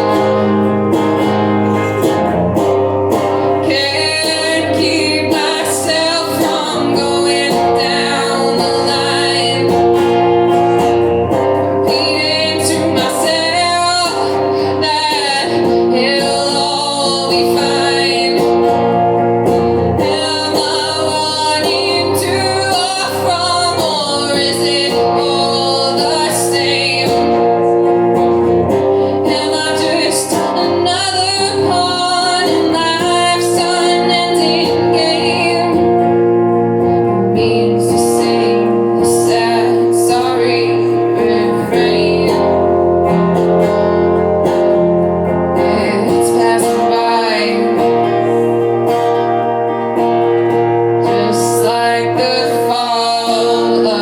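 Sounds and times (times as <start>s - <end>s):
live band playing: 0.0s - 54.0s
person singing: 0.0s - 54.0s.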